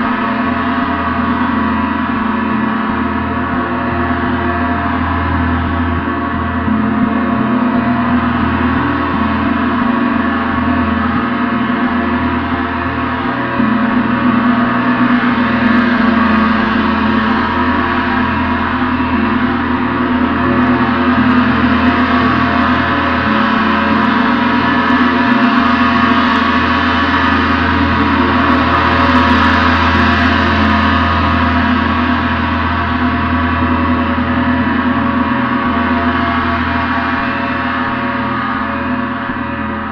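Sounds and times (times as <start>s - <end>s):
gong ringing: 0.0s - 39.9s.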